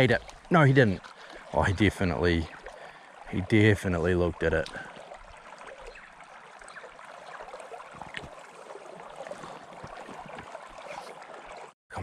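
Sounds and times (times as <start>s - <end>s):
river babbling over gravel: 0.0s - 11.7s.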